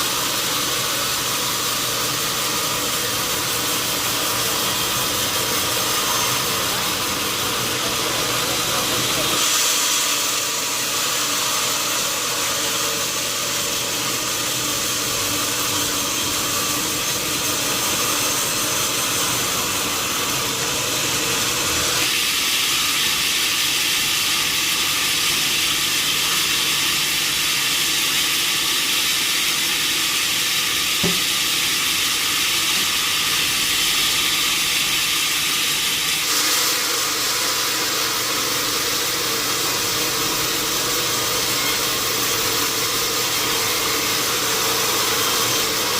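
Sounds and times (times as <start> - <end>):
sawmill saw cutting wood: 0.0 - 45.9.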